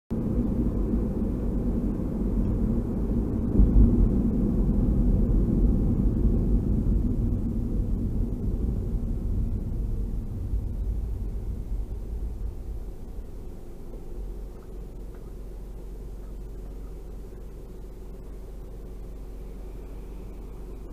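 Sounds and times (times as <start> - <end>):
car cabin road and engine rumble: 0.1 - 20.9.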